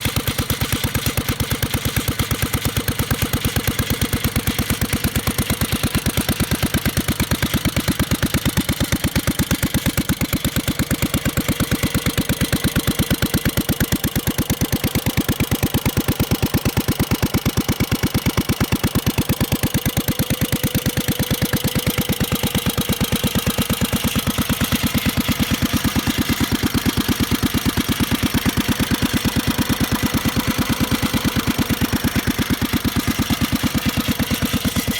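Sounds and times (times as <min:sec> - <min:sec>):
stationary engine running: 0:00.0 - 0:34.9.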